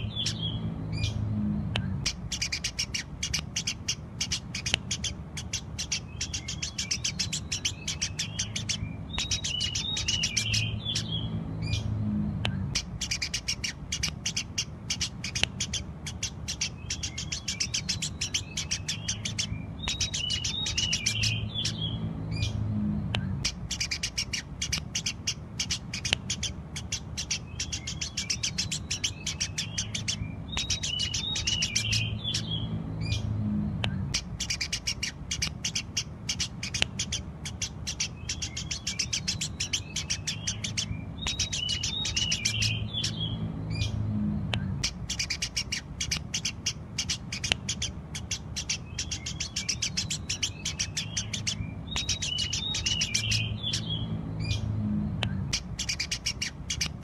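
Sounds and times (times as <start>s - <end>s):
low hum: 0.0s - 47.0s, 50.1s - 57.0s
sparrow chirping rapidly: 0.0s - 57.0s.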